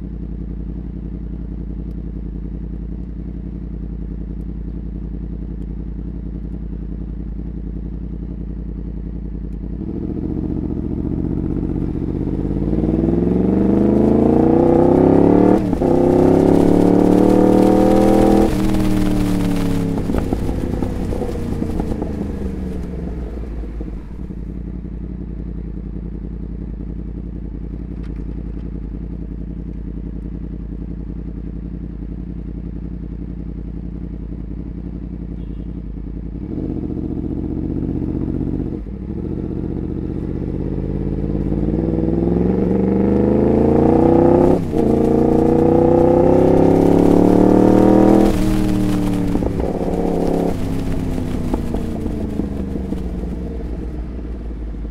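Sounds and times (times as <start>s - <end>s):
motorcycle engine revving: 4.8s - 54.9s.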